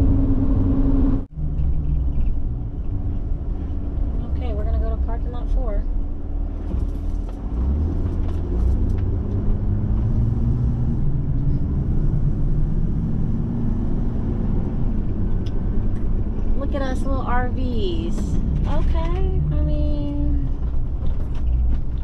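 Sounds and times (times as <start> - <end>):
road rumble: 0.0 - 22.0
van engine: 0.0 - 22.0.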